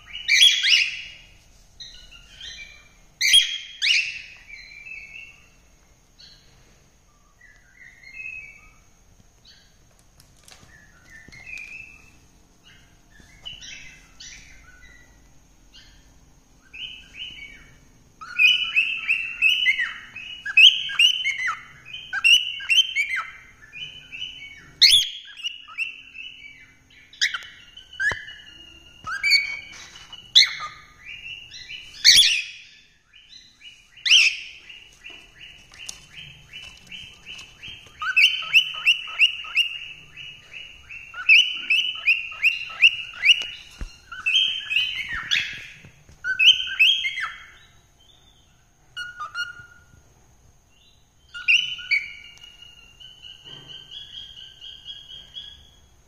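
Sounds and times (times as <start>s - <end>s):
cockatiels chirping: 0.0s - 5.5s, 9.4s - 50.0s, 50.8s - 55.8s
sharp bird calls: 0.0s - 56.0s.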